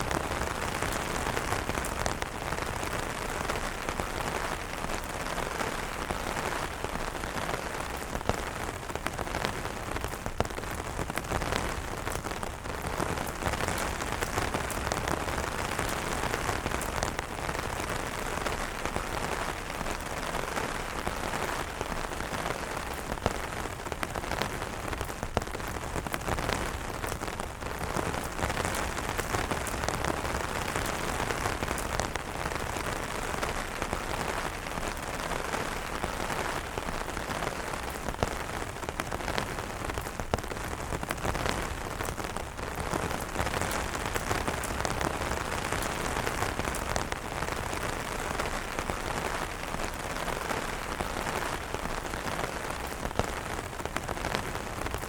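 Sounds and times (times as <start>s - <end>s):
rain on umbrellas: 0.0s - 55.0s
sharp taps of raindrops: 0.1s - 55.0s.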